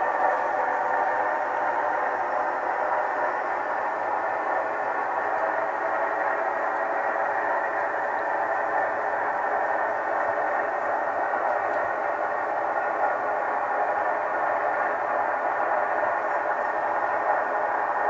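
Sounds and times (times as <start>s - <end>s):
model locomotive diesel engine sound: 0.0s - 18.0s.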